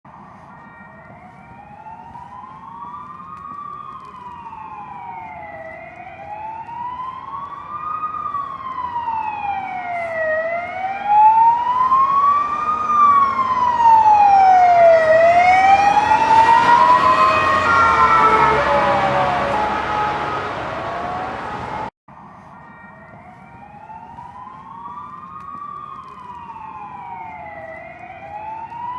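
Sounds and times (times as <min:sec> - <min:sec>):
ambulance siren wailing: 0:00.1 - 0:28.9
road noise: 0:00.1 - 0:28.9.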